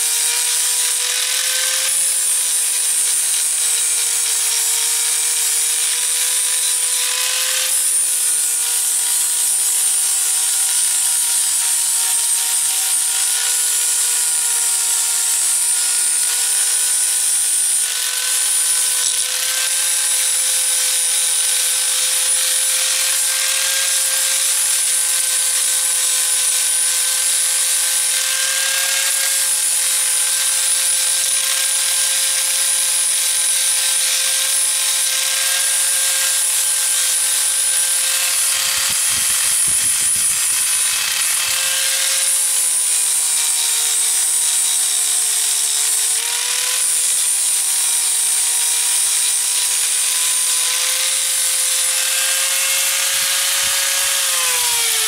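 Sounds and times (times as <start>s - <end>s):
angle grinder sanding metal: 0.0s - 55.0s.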